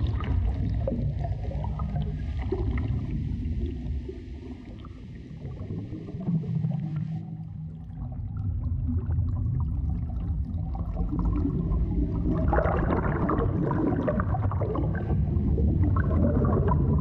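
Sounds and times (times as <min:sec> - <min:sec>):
underwater water rumbling: 0:00.0 - 0:17.0
water gurgling: 0:00.0 - 0:17.0.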